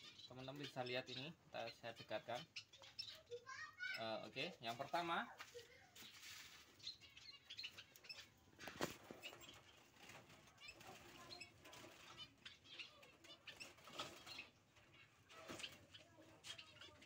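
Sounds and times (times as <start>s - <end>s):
birds fluttering in a cage: 0.0s - 17.0s.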